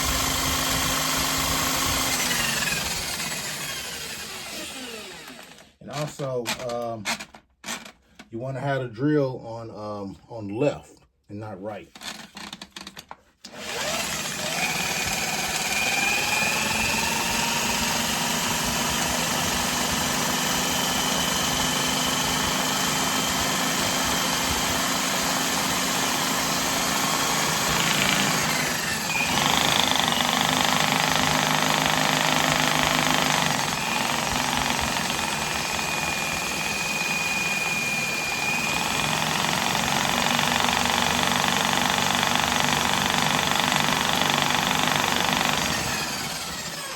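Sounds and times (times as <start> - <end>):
electric drill motor whine: 0.0 - 5.8, 13.5 - 46.9.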